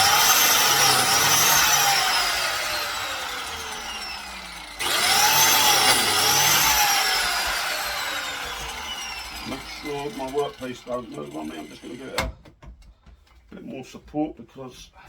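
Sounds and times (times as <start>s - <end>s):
biscuit joiner cutting wood: 0.0s - 12.3s.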